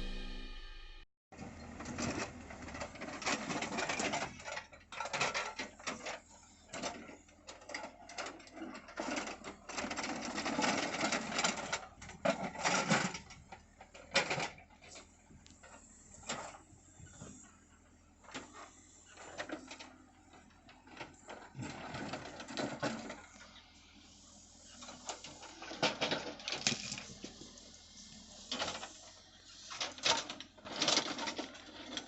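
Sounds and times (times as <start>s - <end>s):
excavator clanking and scraping: 1.4s - 32.0s.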